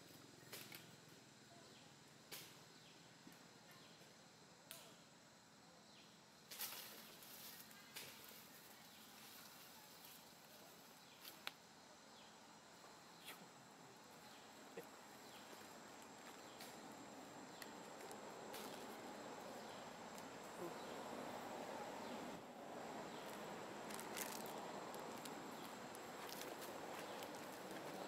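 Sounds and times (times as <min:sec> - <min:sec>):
insects: 0:00.0 - 0:28.0.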